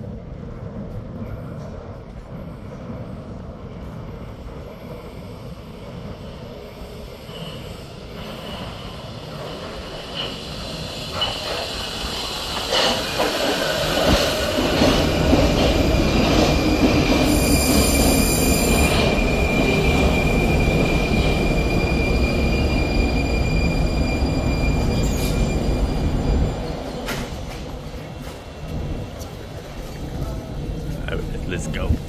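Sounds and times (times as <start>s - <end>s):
train rumbling on rails: 0.0s - 32.0s.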